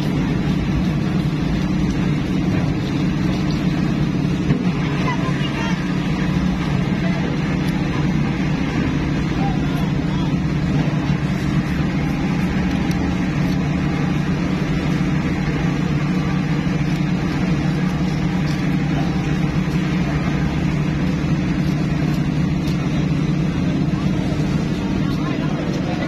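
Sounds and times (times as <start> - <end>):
low engine-like drone: 0.0 - 26.0.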